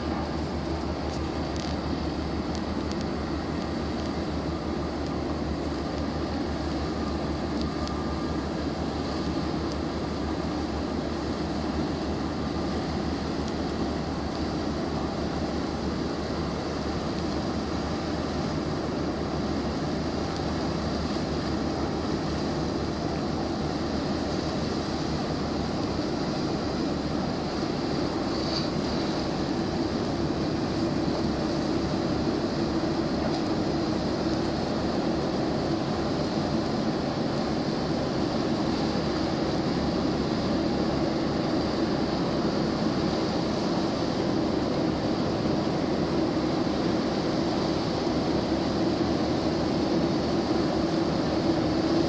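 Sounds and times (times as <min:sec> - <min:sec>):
ship engines droning: 0:00.0 - 0:52.0
wind and water hiss: 0:00.0 - 0:52.0.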